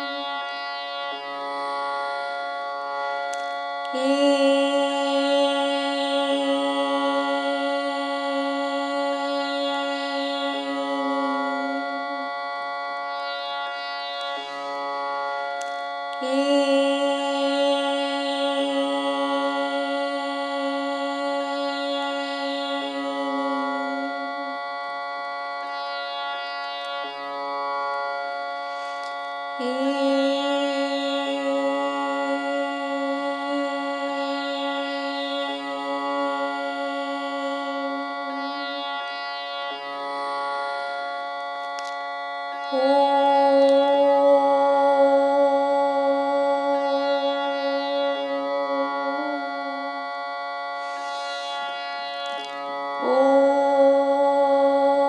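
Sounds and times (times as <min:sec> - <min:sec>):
woman singing long held notes: 0:00.0 - 0:25.8, 0:26.8 - 0:55.0
steady drone: 0:00.0 - 0:55.0.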